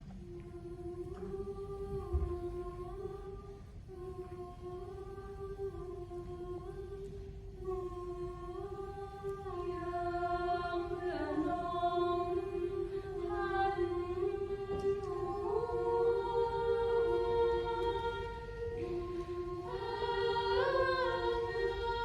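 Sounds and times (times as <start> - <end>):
voices singing in harmony: 0.1 - 22.0.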